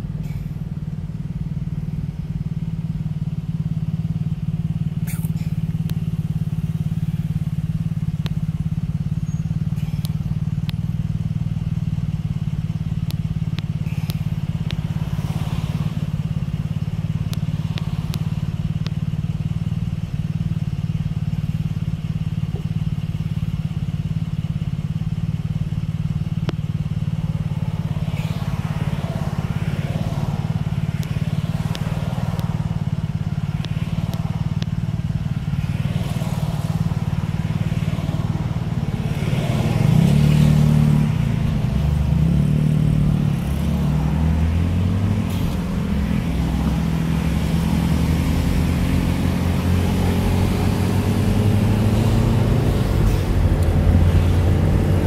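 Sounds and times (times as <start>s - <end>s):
engines idling in traffic: 0.0s - 55.0s.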